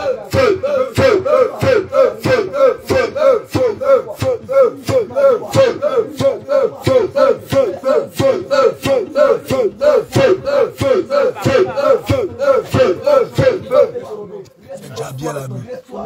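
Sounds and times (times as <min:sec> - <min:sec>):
voices chanting shouted syllable: 0:00.0 - 0:16.0.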